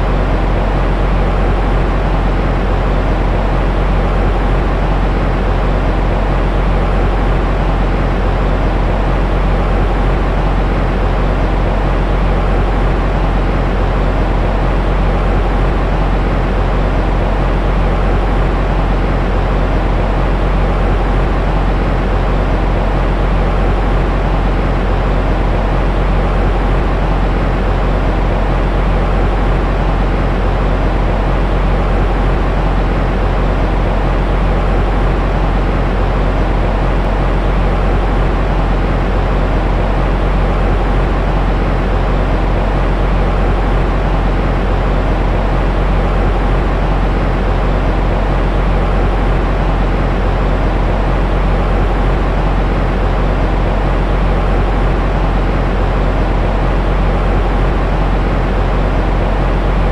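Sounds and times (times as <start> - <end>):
faint steady hum: 0.0 - 59.9
rumbling white noise: 0.0 - 59.9.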